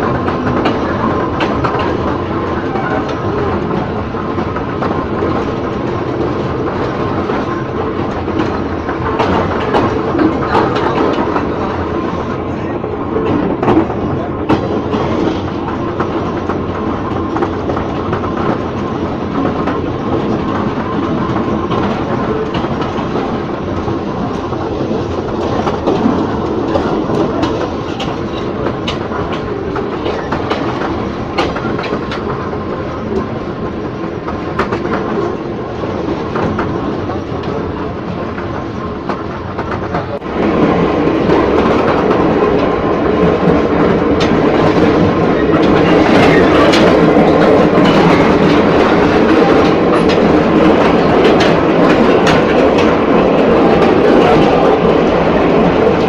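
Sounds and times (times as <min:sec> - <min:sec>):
clickety-clack over rail joints: 0:00.0 - 0:56.0
train wheels rumbling on rail: 0:00.0 - 0:56.0.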